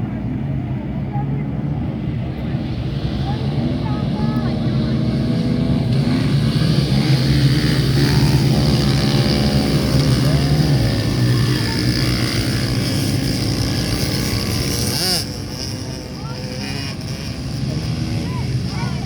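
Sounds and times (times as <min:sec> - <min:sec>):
small motorbike engines revving: 0:01.8 - 0:19.0.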